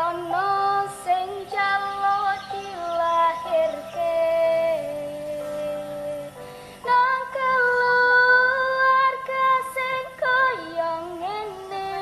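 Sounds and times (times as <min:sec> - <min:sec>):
woman singing slow song: 0:00.0 - 0:12.0.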